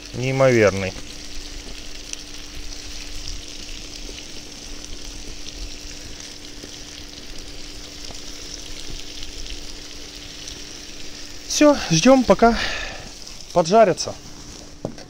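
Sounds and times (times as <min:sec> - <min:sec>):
crackling oil: 0:00.0 - 0:15.0
food sizzling in oil: 0:00.0 - 0:15.0.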